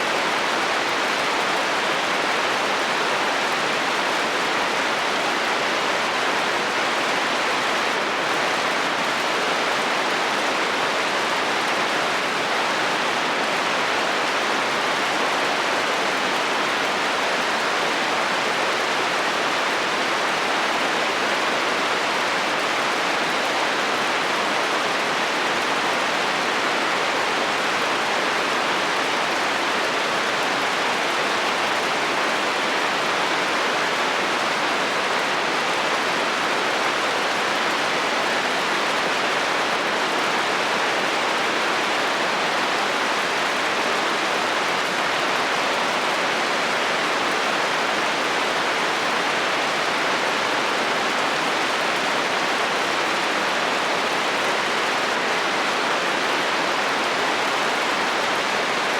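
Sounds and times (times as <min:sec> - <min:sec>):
heavy rain on a metal roof: 0:00.0 - 0:58.9.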